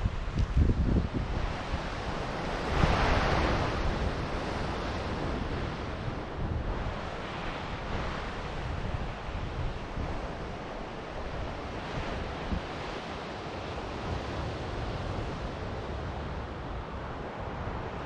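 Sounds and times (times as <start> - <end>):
ocean surf washing ashore: 0.0 - 18.0
wind buffeting microphone: 0.0 - 18.0.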